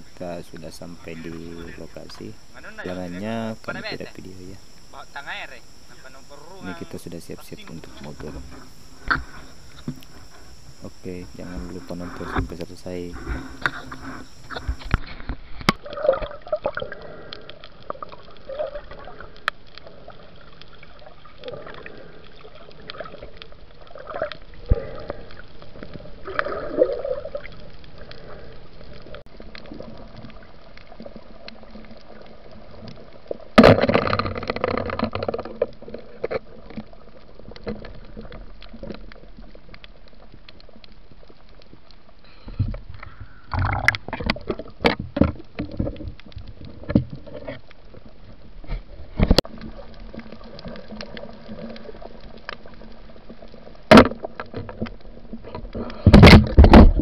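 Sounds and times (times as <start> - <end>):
faint clicks: 0.0 - 16.0, 16.6 - 56.6
underwater gurgling and bubbling: 0.0 - 57.0.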